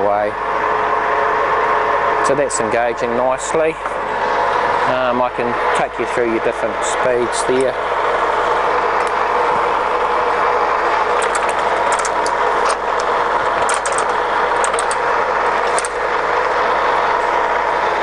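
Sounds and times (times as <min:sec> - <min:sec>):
lathe gear noise: 0:00.0 - 0:18.0.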